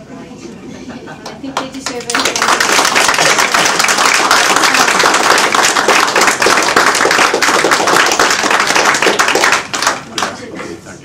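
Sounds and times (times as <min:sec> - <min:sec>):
crowd applauding: 0:01.6 - 0:10.5.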